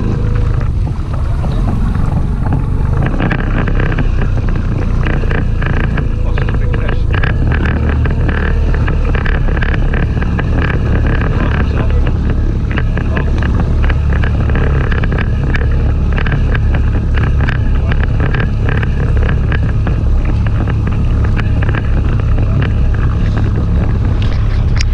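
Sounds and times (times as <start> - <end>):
waves slapping boat hull: 0.0 - 24.9
wind buffeting microphone: 0.0 - 24.9.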